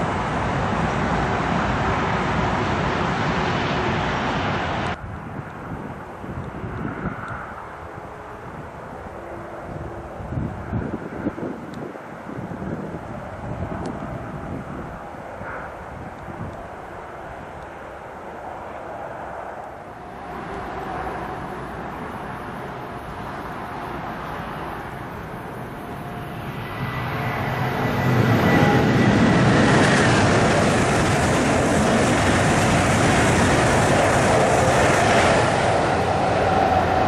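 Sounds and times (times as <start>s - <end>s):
high-speed train passing: 0.0s - 37.0s
steady background noise: 0.0s - 37.0s.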